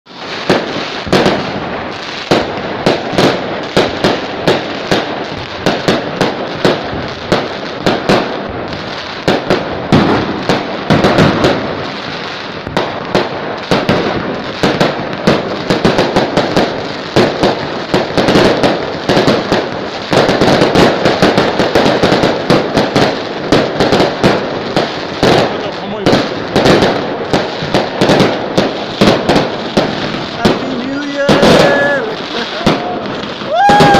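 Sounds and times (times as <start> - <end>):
firecrackers banging: 0.1 - 33.9.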